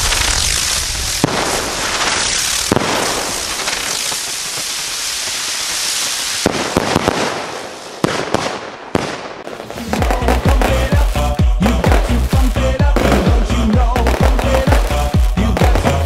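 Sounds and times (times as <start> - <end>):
firework bangs: 0.0 - 16.0
fireworks hissing in flight: 0.0 - 16.0.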